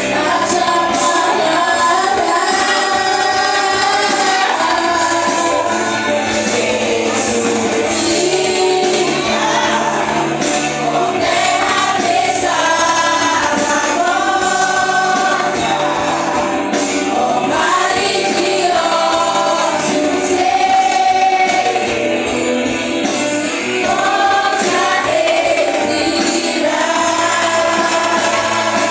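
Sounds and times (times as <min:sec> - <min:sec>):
instrumental backing: 0:00.0 - 0:28.9
vocal group singing gospel: 0:00.0 - 0:28.9.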